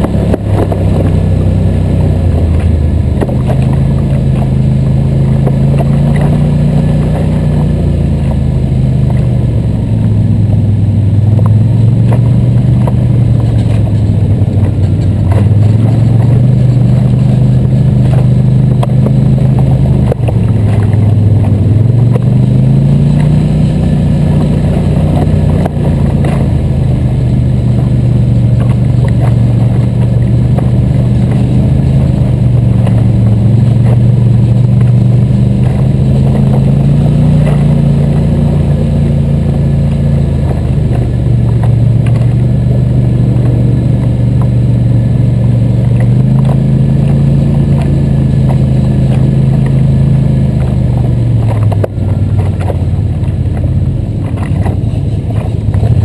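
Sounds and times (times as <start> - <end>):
atv engine running: 0.0 - 56.0
knocks over bumps: 2.1 - 4.6, 11.2 - 56.0.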